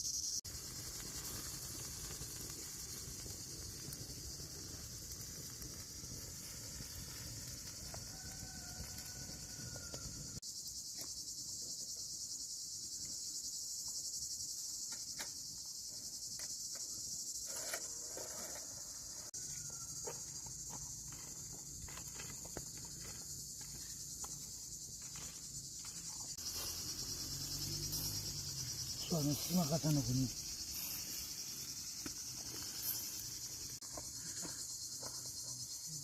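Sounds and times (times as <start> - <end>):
insect chorus chirring: 0.0 - 36.0.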